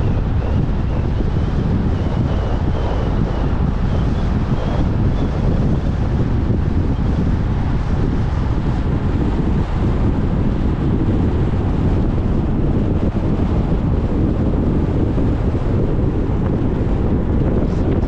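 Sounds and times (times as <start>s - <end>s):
road rumble from moving car: 0.0s - 18.0s
wind buffeting microphone: 0.0s - 18.0s.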